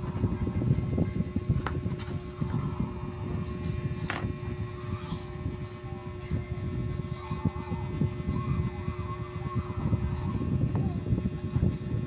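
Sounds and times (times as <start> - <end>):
faint hum: 0.0 - 12.0
steady low rumble: 0.0 - 12.0.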